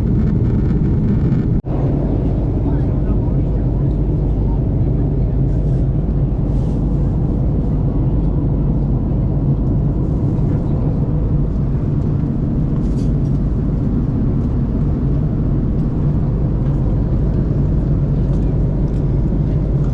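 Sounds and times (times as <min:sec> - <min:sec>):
airplane cabin engine drone: 0:00.0 - 0:19.9.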